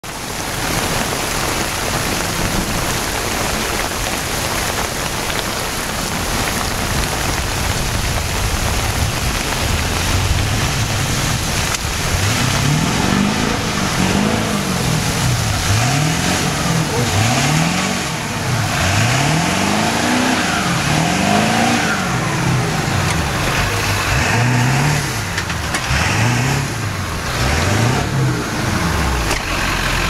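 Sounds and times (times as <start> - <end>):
diesel truck engine revving: 0.0 - 30.0
rain falling: 0.0 - 30.0.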